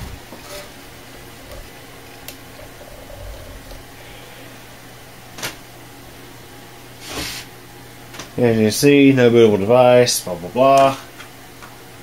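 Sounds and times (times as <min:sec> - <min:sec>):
computer cooling fans humming: 0:00.0 - 0:12.0.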